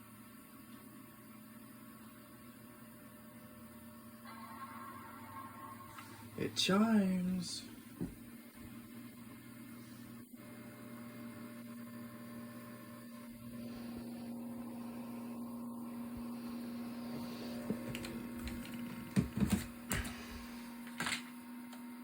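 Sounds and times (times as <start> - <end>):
computer cooling fans humming: 0.0 - 22.0.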